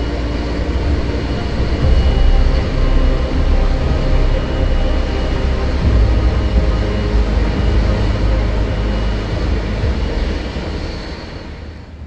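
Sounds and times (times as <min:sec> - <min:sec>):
high steady whine: 0:00.0 - 0:12.0
jet engines running: 0:00.0 - 0:12.0.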